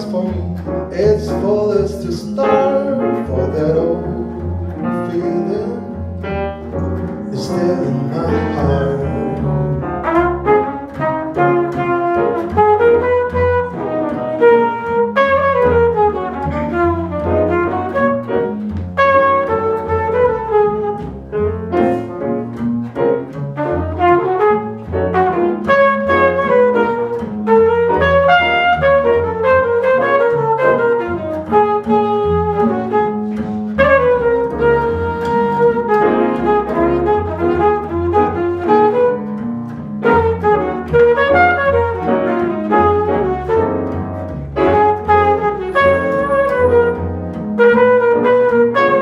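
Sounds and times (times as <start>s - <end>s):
jazz flugelhorn melody: 0.0s - 49.0s
piano chords: 0.0s - 49.0s
upright double bass: 0.0s - 49.0s.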